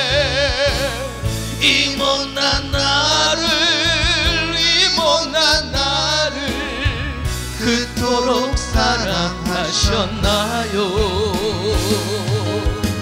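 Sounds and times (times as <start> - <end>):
instrumental accompaniment: 0.0 - 13.0
man singing a hymn: 0.0 - 13.0.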